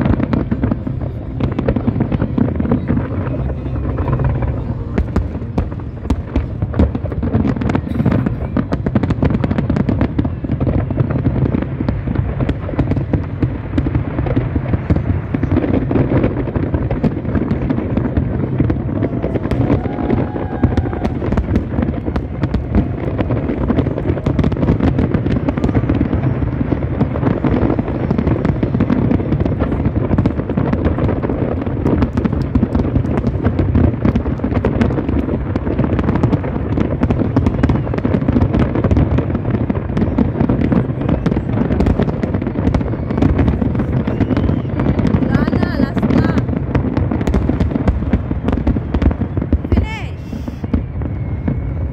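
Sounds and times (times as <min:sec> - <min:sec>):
fireworks bursting: 0:00.0 - 0:51.9.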